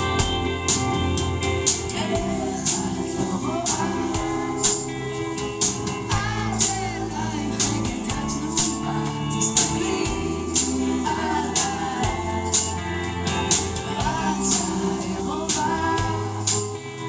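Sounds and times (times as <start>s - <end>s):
live rock band playing: 0.0s - 17.0s
woman singing: 1.9s - 5.4s, 6.0s - 17.0s.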